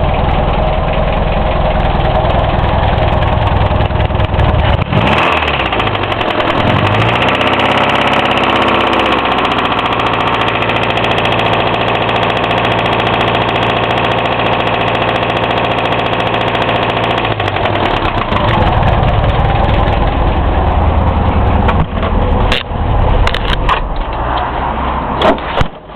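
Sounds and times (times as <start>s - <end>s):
car engine knocking: 0.0s - 24.2s.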